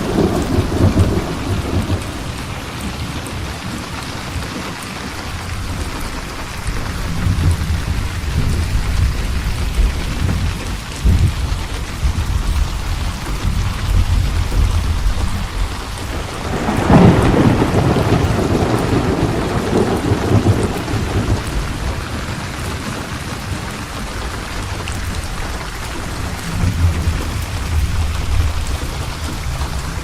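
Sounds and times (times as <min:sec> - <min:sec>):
steady rain: 0:00.0 - 0:30.0
thunder rolling: 0:00.0 - 0:30.0.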